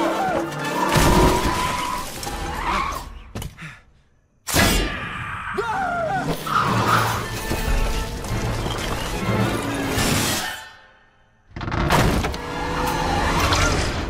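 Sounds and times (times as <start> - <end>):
tyres skidding and screeching: 0.0 - 3.5, 5.7 - 14.0.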